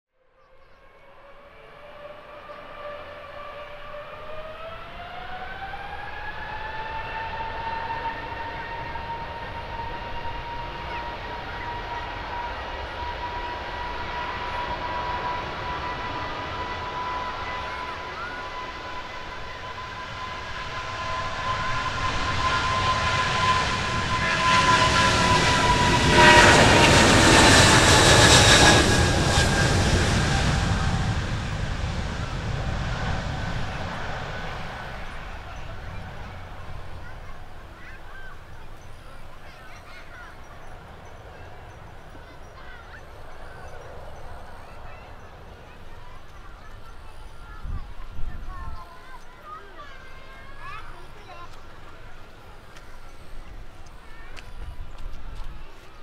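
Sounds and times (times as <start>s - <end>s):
jet engines whining: 1.0s - 56.0s
jet roar passing close: 1.1s - 55.0s.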